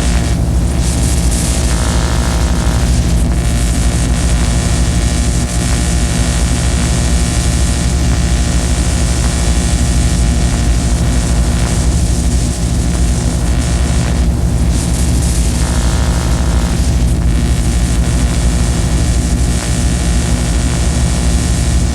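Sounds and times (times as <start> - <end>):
low droning hums: 0.0 - 21.9.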